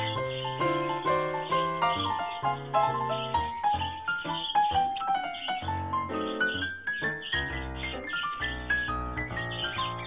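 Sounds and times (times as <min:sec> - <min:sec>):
light instrumental tune: 0:00.0 - 0:10.0.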